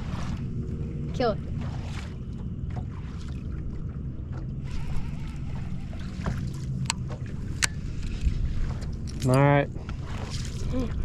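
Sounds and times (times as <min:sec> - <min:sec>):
steady low hum: 0:00.0 - 0:11.0
water noise: 0:00.0 - 0:11.0
wind: 0:00.0 - 0:11.0.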